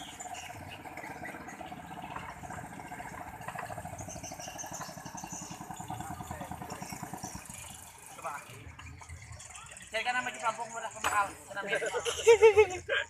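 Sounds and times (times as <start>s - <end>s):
small boat engine running: 0.0s - 12.2s.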